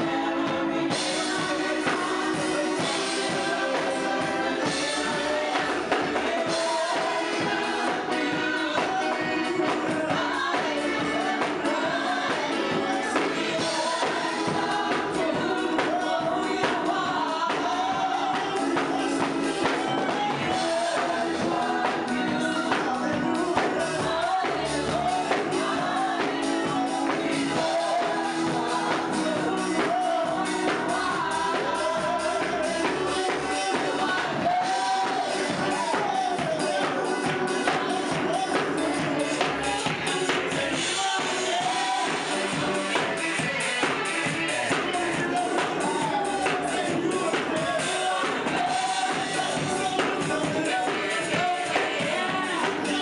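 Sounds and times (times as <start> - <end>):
band with steady beat: 0.0 - 53.0
gospel choir singing: 0.0 - 53.0.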